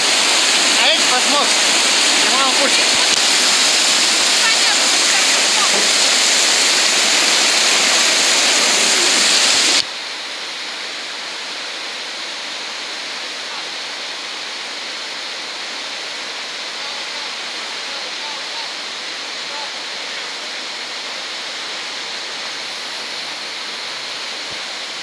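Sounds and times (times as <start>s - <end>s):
whitewater rapids rushing: 0.0s - 25.0s.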